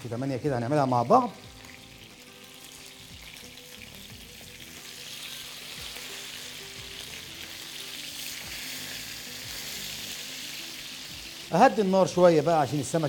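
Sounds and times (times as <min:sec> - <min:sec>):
fish frying in oil: 0:00.2 - 0:13.0.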